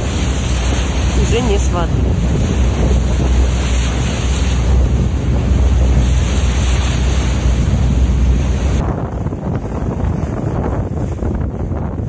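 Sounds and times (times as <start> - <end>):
steady low rumble: 0.0 - 12.0
water rushing along hull: 0.0 - 12.0
wind buffeting microphone: 0.0 - 12.0.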